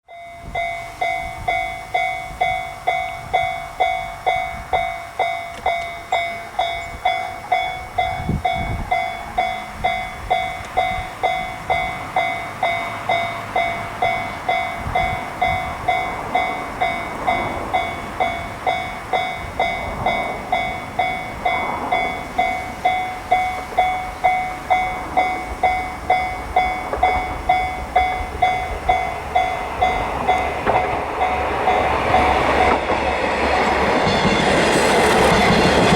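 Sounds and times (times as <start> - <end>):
railroad crossing warning bell: 0.0 - 35.9.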